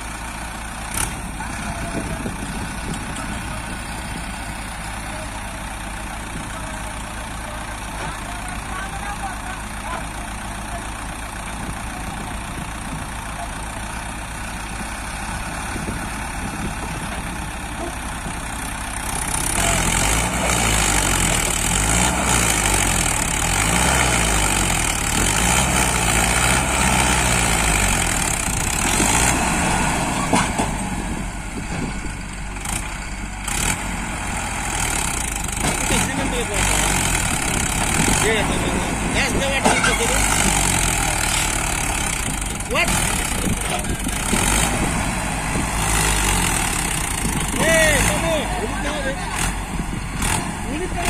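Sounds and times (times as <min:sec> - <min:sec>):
diesel engines revving: 0:00.0 - 0:51.0.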